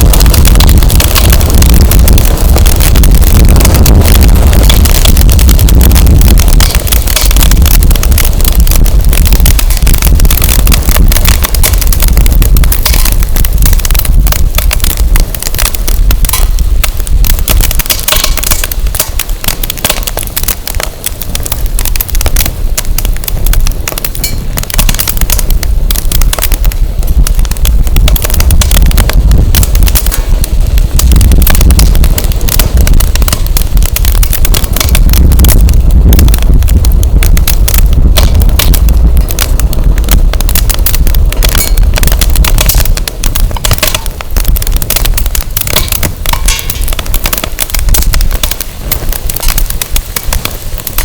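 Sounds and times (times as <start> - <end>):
bonfire crackling and popping: 0.0 - 51.0
wind buffeting microphone: 0.0 - 51.0.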